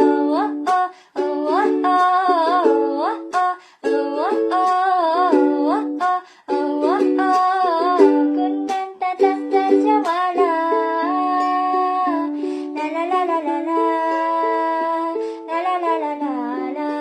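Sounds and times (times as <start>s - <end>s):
person singing: 0.0s - 17.0s
strummed ukulele: 0.0s - 17.0s.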